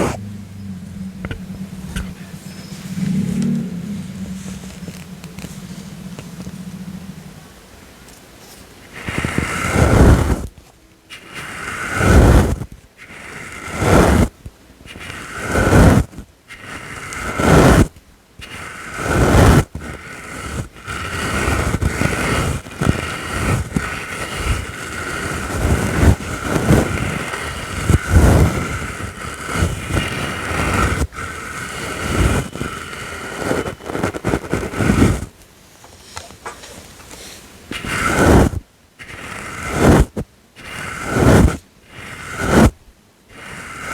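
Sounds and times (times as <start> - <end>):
brush strokes sweeping: 0.0 - 7.6, 8.2 - 10.5, 11.1 - 35.3, 36.0 - 43.9.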